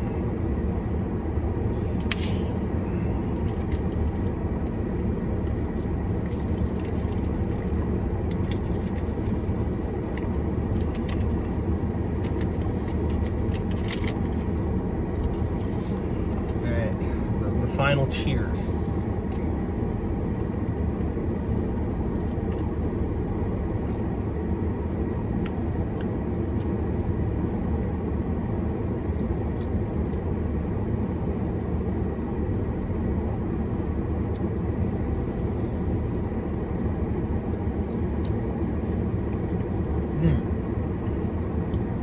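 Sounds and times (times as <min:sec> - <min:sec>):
low background rumble: 0:00.0 - 0:42.0.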